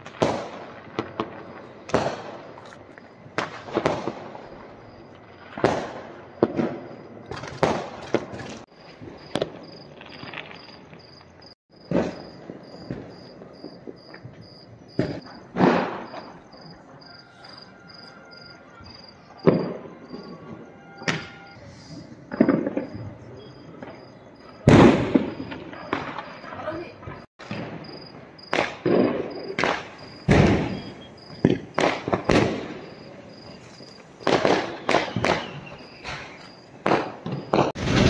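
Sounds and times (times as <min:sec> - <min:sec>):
firecrackers bursting: 0:00.0 - 0:38.0.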